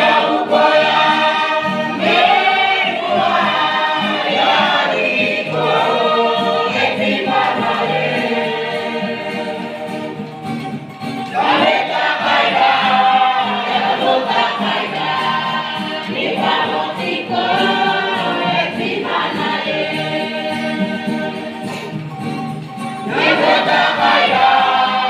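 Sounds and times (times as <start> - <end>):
youth choir singing a hymn: 0.0 - 10.3, 11.3 - 22.0, 23.0 - 25.0.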